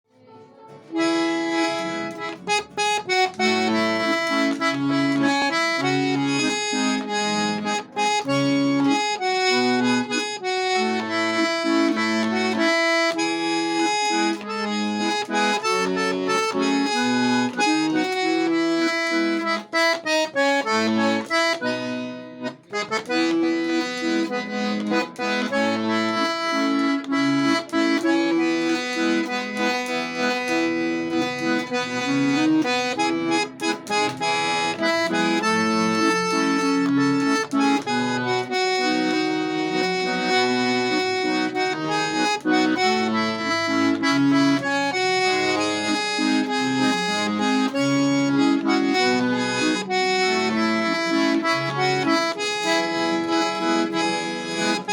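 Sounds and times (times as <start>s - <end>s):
solo accordion: 0.2s - 54.9s.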